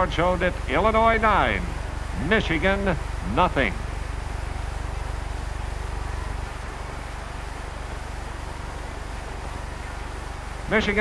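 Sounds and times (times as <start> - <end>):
film soundtrack hum and hiss: 0.0 - 11.0.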